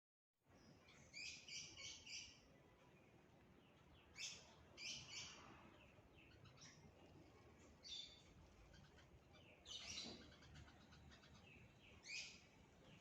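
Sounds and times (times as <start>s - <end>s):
wild birds chirping: 0.4s - 13.0s.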